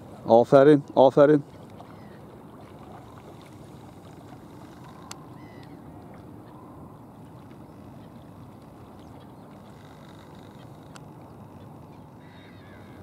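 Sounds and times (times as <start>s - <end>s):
lake water lapping: 0.0s - 13.0s.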